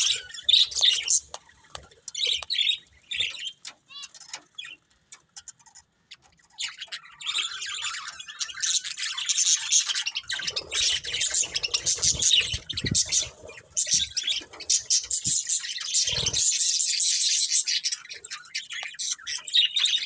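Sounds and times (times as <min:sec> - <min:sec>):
budgerigars chirping: 0:00.0 - 0:20.0.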